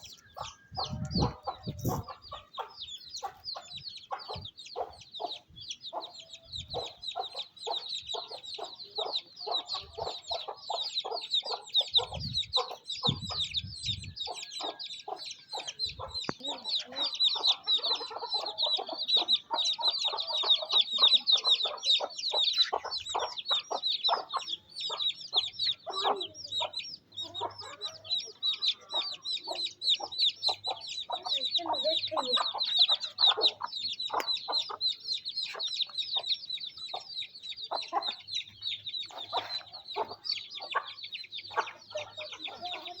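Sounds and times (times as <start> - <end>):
chicks peeping: 0.0 - 43.0
hen clucking: 0.0 - 43.0.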